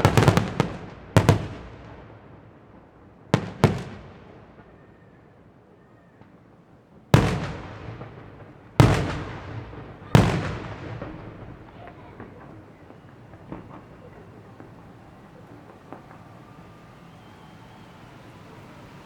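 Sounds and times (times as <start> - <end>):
faint firework pops: 0.0 - 19.0
fireworks bangs with rumble: 0.0 - 19.0.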